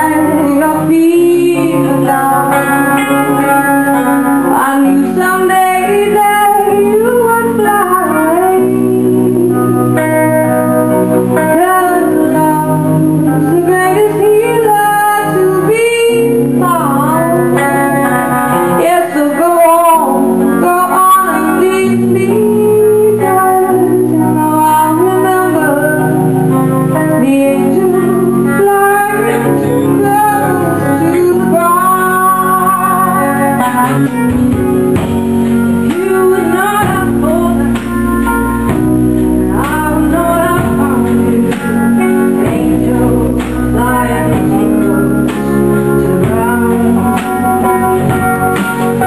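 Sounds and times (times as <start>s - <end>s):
guitar chords: 0.0s - 49.0s
woman singing into microphone: 0.0s - 49.0s.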